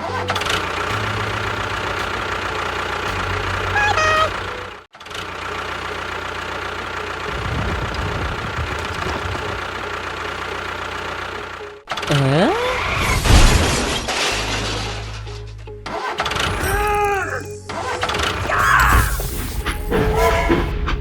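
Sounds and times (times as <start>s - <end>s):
engine-like machine noise: 0.0s - 14.2s, 15.8s - 21.0s.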